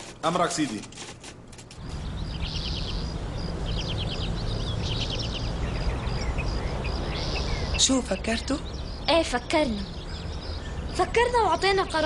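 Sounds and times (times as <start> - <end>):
birds chirping: 1.7 - 12.0.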